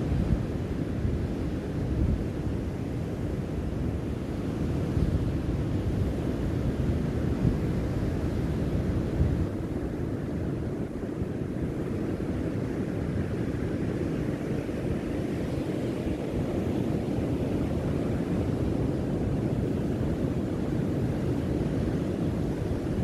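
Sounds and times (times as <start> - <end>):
wind gusting over microphone: 0.0 - 23.0.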